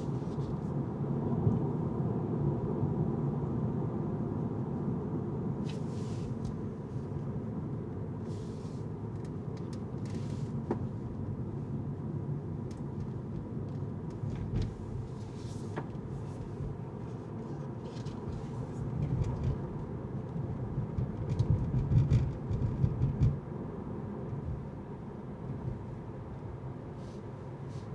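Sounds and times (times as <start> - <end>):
car engine and road rumble: 0.0 - 27.9.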